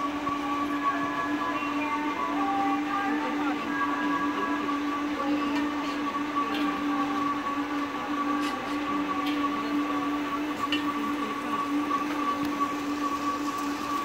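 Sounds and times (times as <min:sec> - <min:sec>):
machine hum and whine: 0:00.0 - 0:14.0
noisy background: 0:00.0 - 0:14.0.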